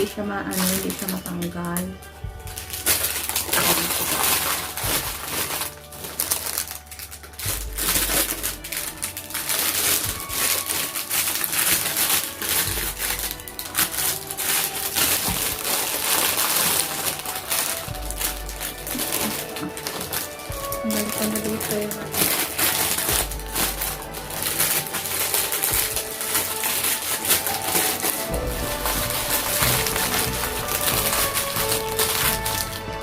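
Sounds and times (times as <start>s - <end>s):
packaging rustling and crinkling: 0.0s - 33.0s.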